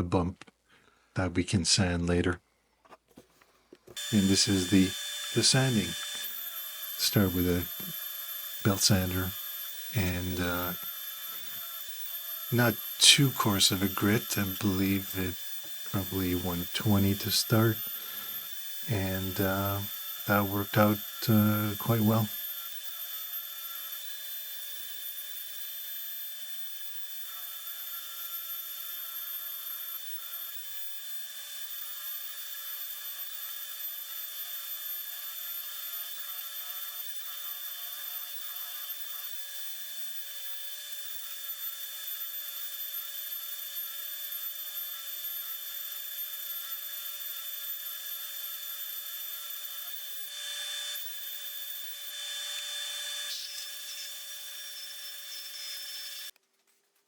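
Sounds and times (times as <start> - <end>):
belt sander sanding wood: 2.9 - 56.4.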